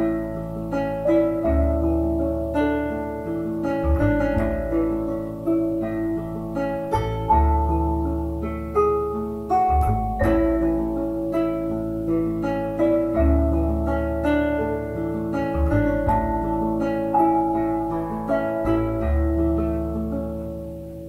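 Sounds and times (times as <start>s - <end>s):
deep held bass notes: 0.0s - 21.0s
plucked notes: 0.0s - 21.0s.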